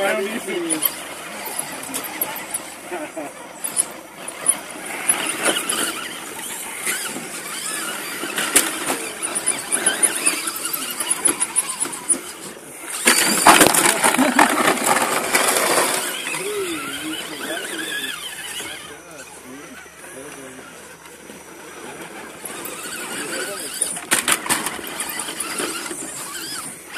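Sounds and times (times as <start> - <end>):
electric rc truck drivetrain: 0.0 - 26.9
tyres crackling on loose stones: 0.0 - 26.9.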